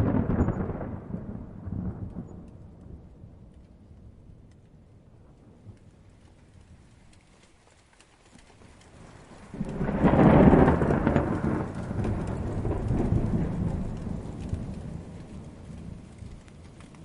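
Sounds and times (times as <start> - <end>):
thunder rolling: 0.0 - 6.1, 9.0 - 17.0
rain pattering: 0.0 - 17.0.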